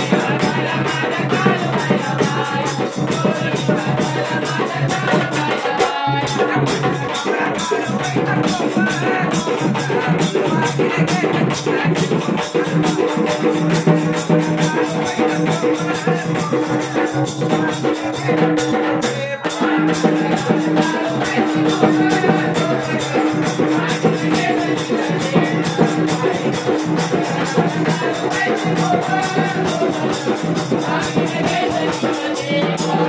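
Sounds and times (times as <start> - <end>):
fast drumming: 0.0 - 33.0
shaker-like percussion: 0.0 - 33.0.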